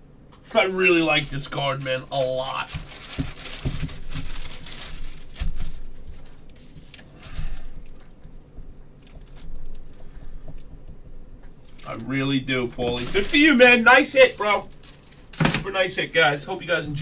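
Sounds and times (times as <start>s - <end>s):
plastic bag crinkling: 1.1s - 10.8s, 11.6s - 16.8s.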